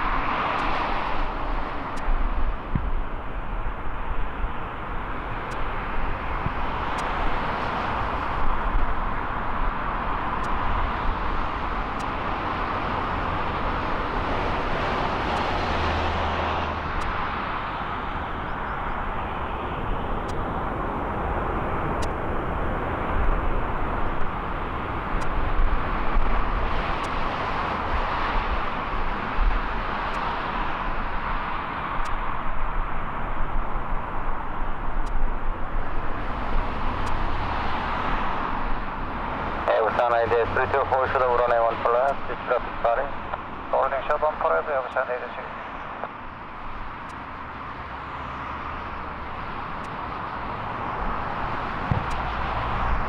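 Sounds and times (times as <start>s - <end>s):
jet engines roaring: 2.6s - 46.1s, 46.7s - 53.0s.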